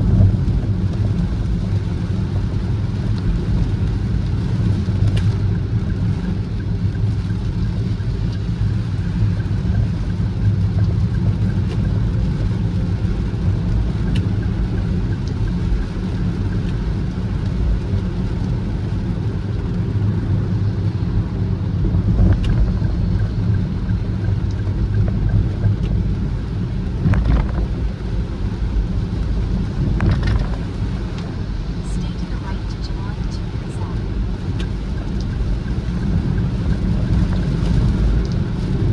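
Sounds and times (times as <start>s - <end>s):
car engine and tyres on wet road: 0.0s - 38.9s.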